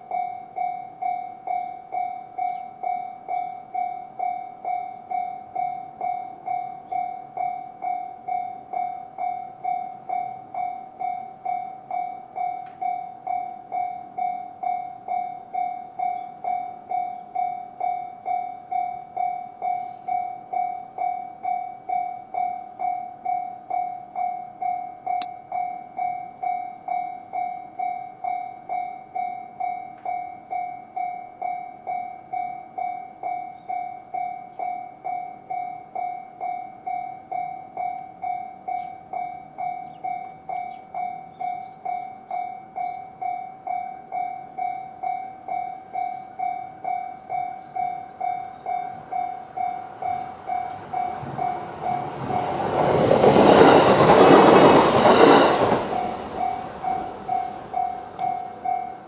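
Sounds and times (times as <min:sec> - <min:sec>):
electric train passing: 0:00.0 - 0:59.0
level crossing warning bell: 0:00.0 - 0:59.0.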